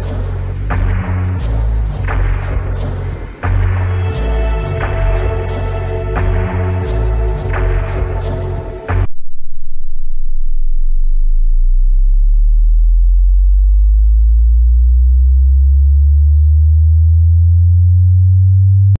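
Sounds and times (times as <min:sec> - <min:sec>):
low sine-wave tone sweep: 0:00.0 - 0:19.0.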